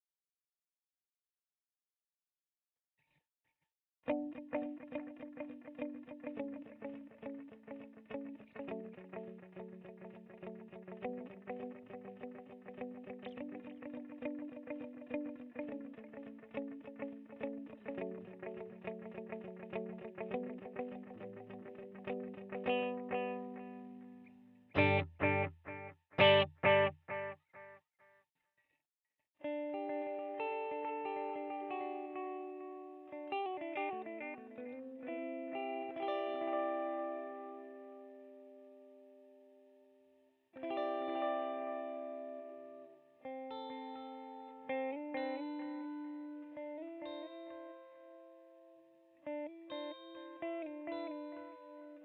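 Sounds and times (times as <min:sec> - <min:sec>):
electric guitar chords with delay: 0:04.1 - 0:27.6, 0:29.5 - 0:38.8, 0:40.6 - 0:48.7, 0:49.3 - 0:52.0.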